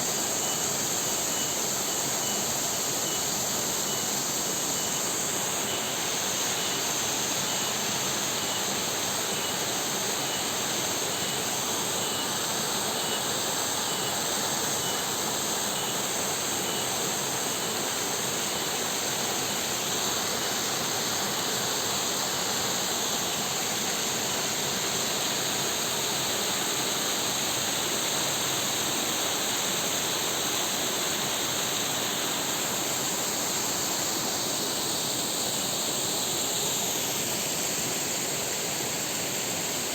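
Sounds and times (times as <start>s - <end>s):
faint pulsed insect chirping: 0.0s - 39.9s.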